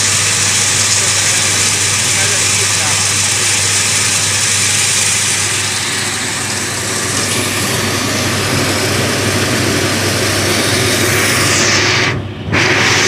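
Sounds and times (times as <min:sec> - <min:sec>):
coffee huller rushing noise: 0:00.0 - 0:13.0
motor hum: 0:00.0 - 0:13.0.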